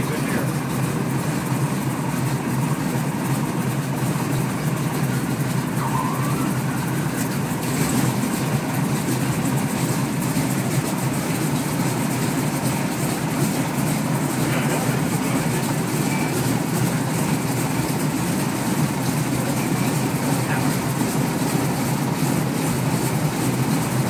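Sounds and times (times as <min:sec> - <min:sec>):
radial aircraft engine running: 0:00.0 - 0:24.0.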